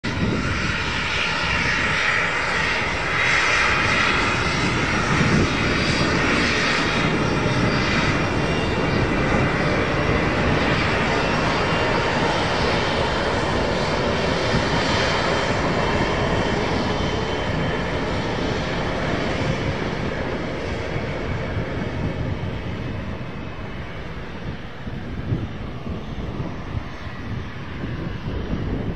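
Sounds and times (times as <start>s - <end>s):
jet engines running: 0.0s - 28.9s.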